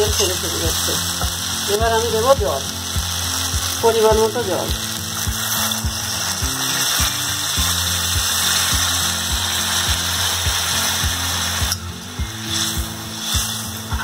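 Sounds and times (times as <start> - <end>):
water sizzling in hot pan: 0.0 - 14.0
low repeating beat: 0.1 - 13.1.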